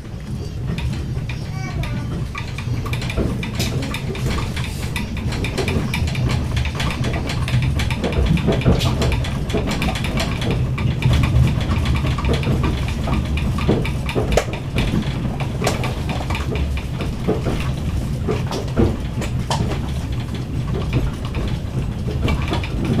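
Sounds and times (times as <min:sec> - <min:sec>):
knocks and rattles: 0:00.0 - 0:23.0
train carriage rumble: 0:00.0 - 0:23.0.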